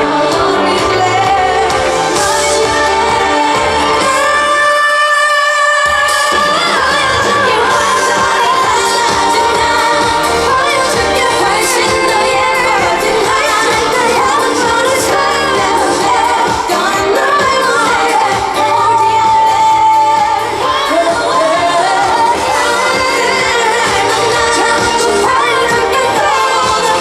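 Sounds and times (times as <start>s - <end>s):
live pop band: 0.0s - 27.0s
woman singing: 0.0s - 27.0s.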